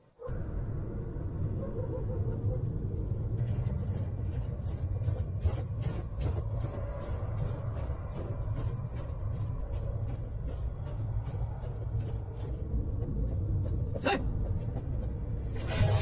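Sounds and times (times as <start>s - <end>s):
deep steady rumble: 0.3s - 15.6s.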